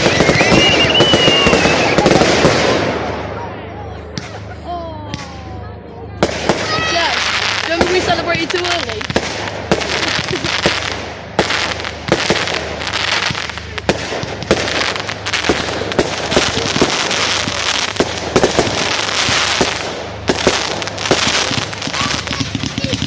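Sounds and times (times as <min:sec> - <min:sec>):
continuous hiss: 0:00.0 - 0:23.0
fireworks bangs: 0:00.0 - 0:23.0.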